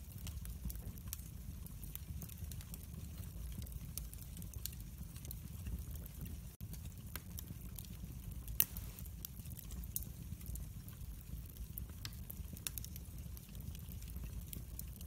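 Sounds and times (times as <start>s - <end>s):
logs crackling in fireplace: 0.0s - 15.0s.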